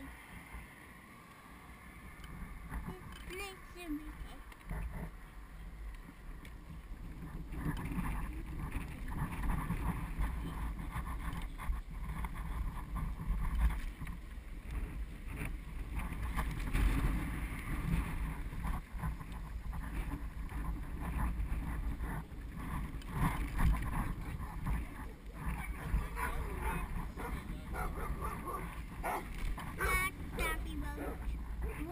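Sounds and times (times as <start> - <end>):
trailer rolling on pavement: 0.0 - 31.9
wind on microphone: 2.0 - 31.9.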